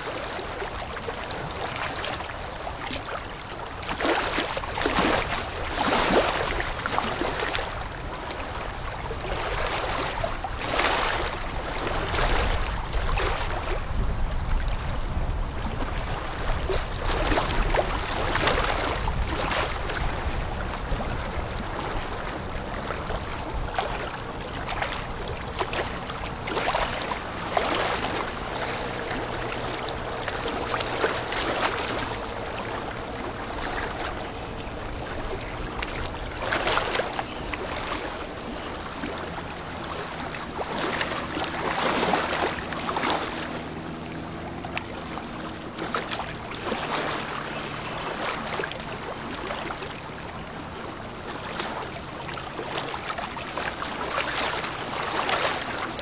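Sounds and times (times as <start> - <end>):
boat engine droning: 0.0 - 56.0
river water rushing: 0.0 - 56.0.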